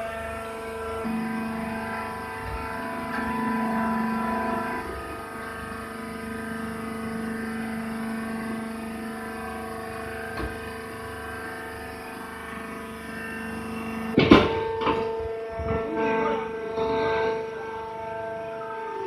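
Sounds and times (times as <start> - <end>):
motor and hydraulic pump hum: 0.0 - 19.0.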